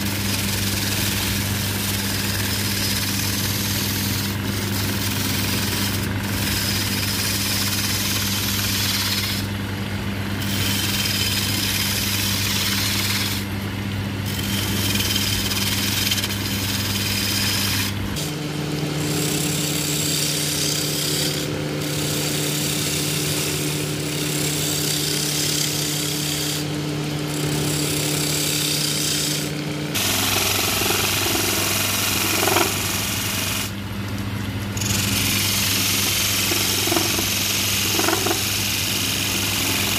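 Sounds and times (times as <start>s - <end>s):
chisel shaving wood: 0.0s - 33.8s, 34.7s - 39.9s
lathe motor hum: 0.0s - 39.9s.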